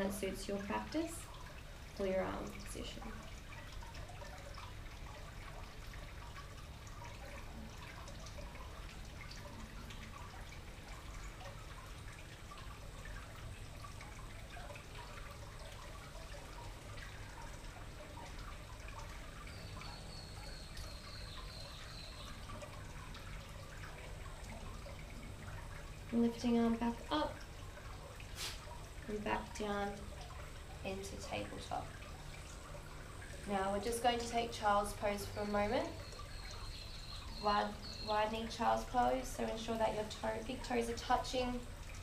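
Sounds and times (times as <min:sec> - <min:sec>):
fountain trickling and dripping: 0:00.0 - 0:42.0.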